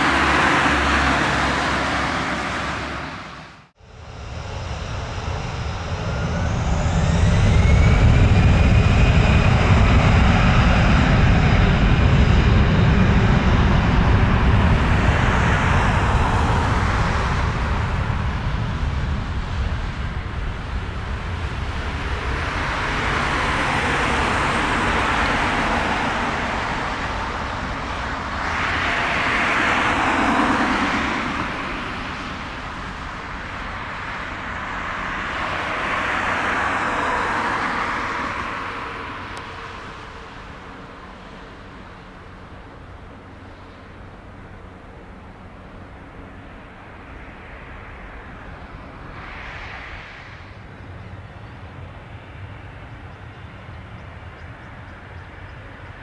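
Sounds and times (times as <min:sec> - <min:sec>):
jet airliner engine roar: 0:00.0 - 0:56.0.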